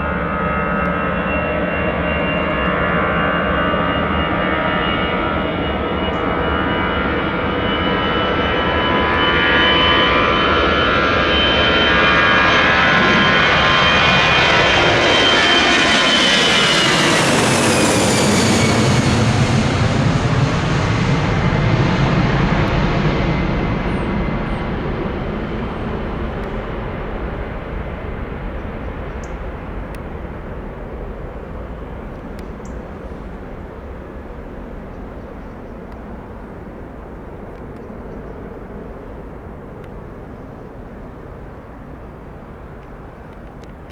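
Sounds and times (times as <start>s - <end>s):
jet engines whining: 0.0s - 43.9s
low jet rumble: 0.0s - 43.9s.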